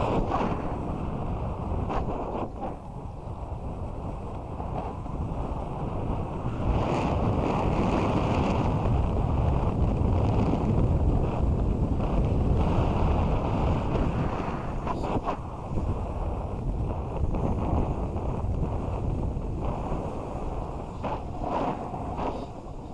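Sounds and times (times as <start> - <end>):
snowboard sliding over snow: 0.0 - 22.9
wind rushing over microphone: 0.0 - 22.9.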